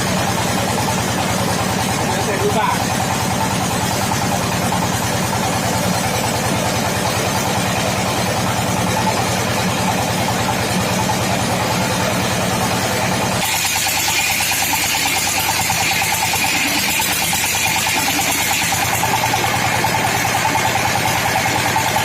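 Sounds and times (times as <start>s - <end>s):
sawmill machine pulsing hum: 0.0s - 22.0s.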